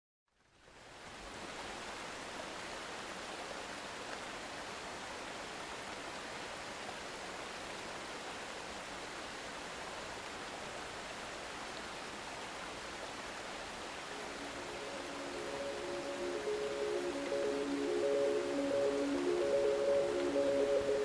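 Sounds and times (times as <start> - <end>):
steady rain hiss: 0.3 - 21.0.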